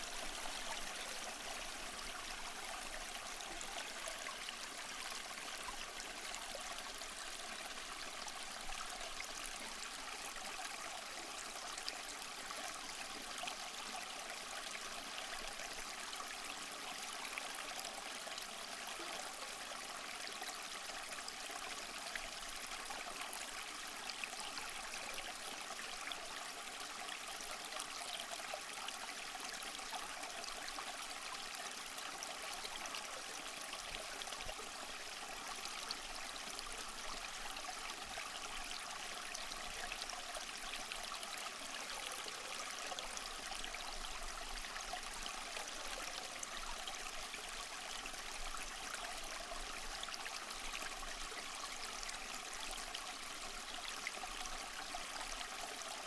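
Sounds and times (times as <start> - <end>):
small waterfall splashing over rocks: 0.0 - 56.0.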